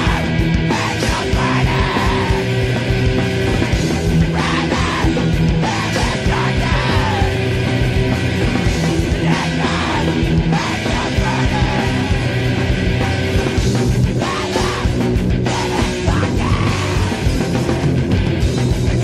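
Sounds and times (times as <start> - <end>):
heavy rock music: 0.0 - 19.0.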